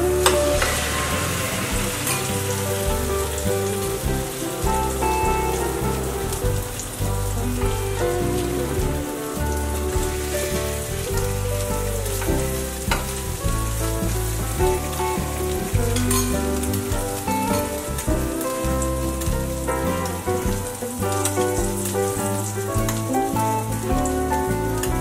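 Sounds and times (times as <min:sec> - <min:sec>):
background music with bass line: 0:00.0 - 0:25.0
bread sizzling in hot oil: 0:00.1 - 0:24.2.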